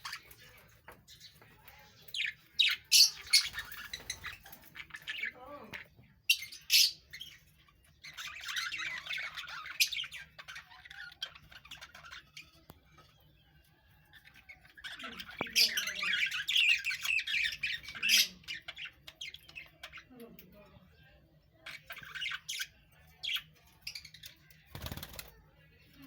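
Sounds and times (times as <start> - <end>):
budgerigars chattering and squawking: 0.0 - 13.0, 14.2 - 20.3, 21.5 - 25.2.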